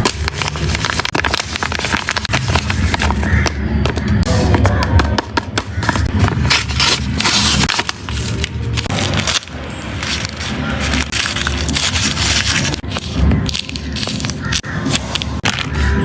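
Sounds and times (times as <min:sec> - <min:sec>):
packaging crinkling: 0:00.0 - 0:03.5, 0:05.8 - 0:16.0.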